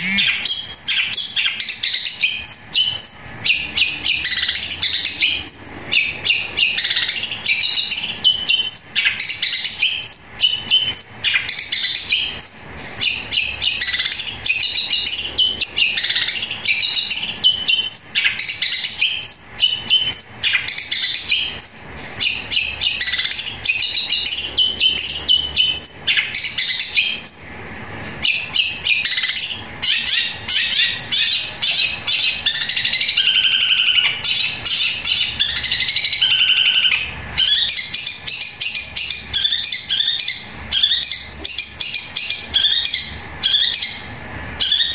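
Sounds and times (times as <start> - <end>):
bird singing rapid chirps and whistles: 0.0 - 44.9.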